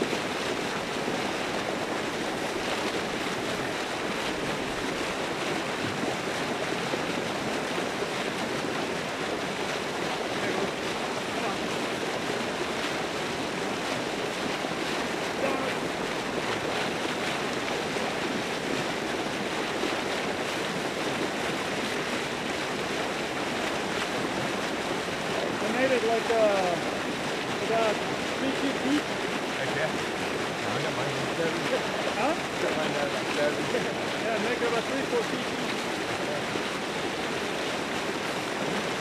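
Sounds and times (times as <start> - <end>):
churning splashing water: 0.0 - 39.0.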